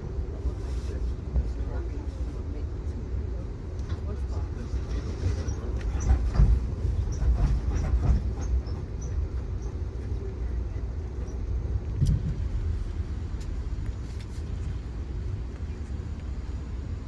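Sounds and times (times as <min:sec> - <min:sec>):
train rumble on board: 0:00.0 - 0:17.0.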